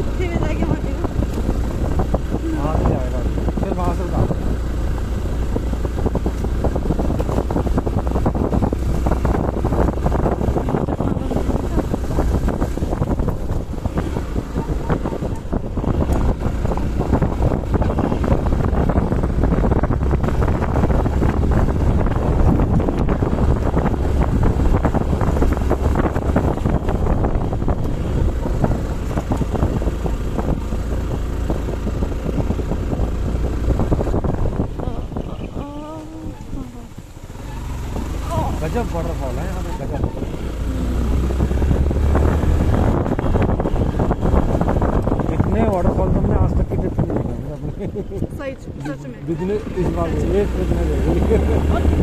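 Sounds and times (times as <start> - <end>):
vehicle engine and road noise: 0.0 - 52.0
wind buffeting microphone: 0.0 - 52.0.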